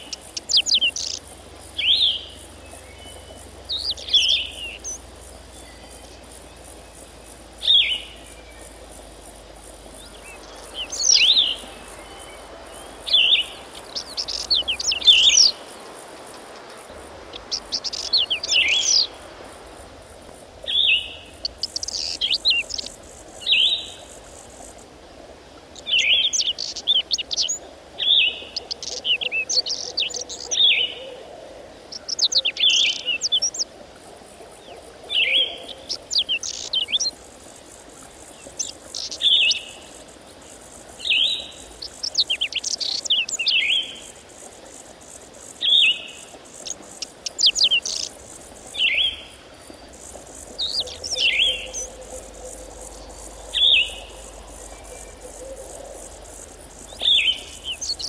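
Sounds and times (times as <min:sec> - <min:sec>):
songbird singing: 0:00.0 - 0:25.1, 0:25.7 - 0:33.7, 0:34.4 - 0:58.0.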